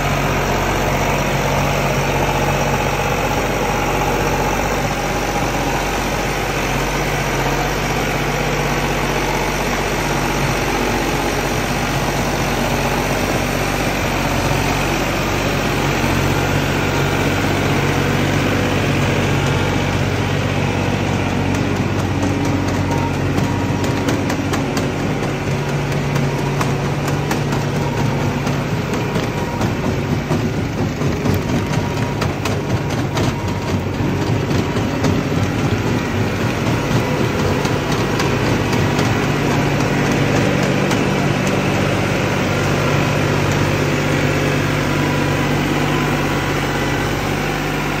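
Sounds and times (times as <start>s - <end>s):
conveyor clatter and falling feed: 0.0s - 48.0s
tractor engine running under load: 0.0s - 48.0s.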